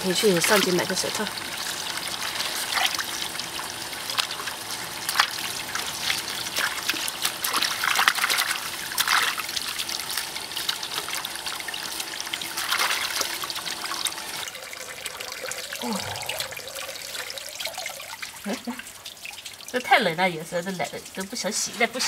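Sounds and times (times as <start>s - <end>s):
hose water pouring into basin: 0.0s - 22.0s.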